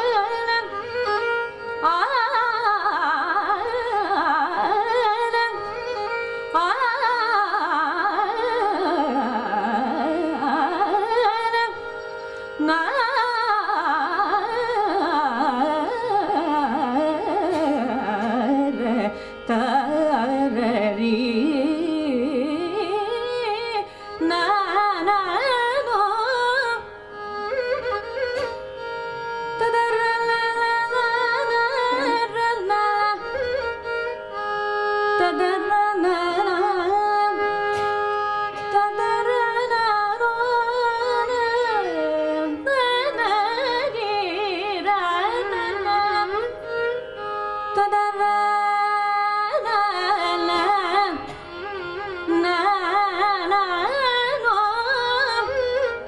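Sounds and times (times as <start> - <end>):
woman singing: 1.8 - 5.8, 6.5 - 11.8, 12.6 - 26.8, 29.6 - 33.5, 35.2 - 37.6, 38.7 - 46.5, 47.7 - 51.4, 52.0 - 56.0.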